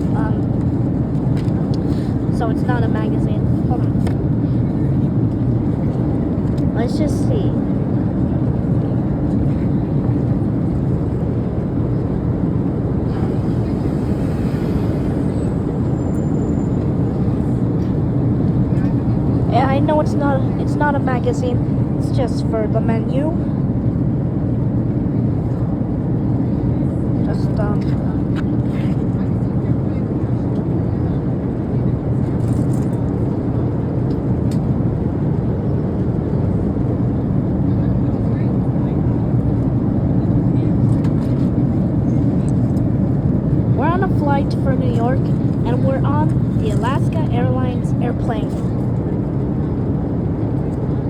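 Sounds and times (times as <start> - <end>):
airliner cabin drone: 0.0 - 51.0.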